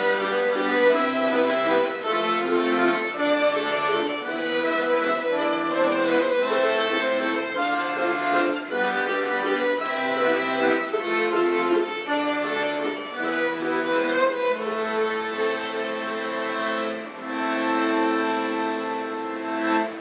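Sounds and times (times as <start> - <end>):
accordion violin and mandolin tango: 0.0 - 20.0.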